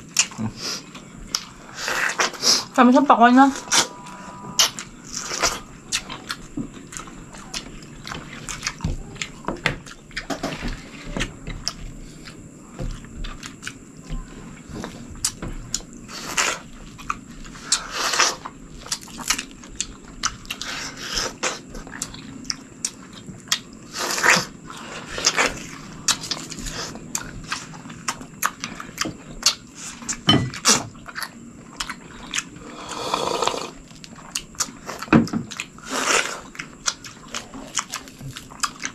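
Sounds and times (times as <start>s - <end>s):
people chewing watermelon: 0.0s - 38.9s.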